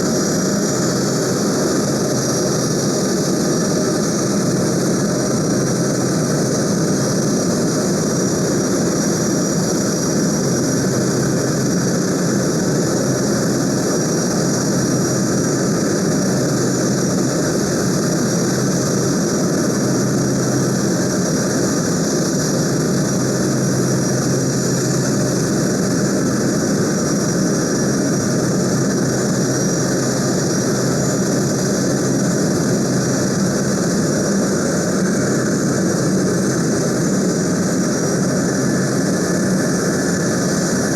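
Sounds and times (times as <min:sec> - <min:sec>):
high engine whine: 0:00.0 - 0:40.9
jet engines rumbling: 0:00.0 - 0:40.9.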